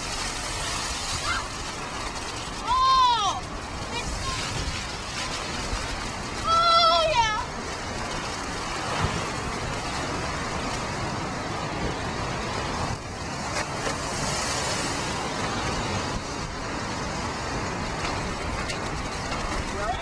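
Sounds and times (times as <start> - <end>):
storm waves washing ashore: 0.0 - 20.0
wind buffeting microphone: 0.0 - 20.0.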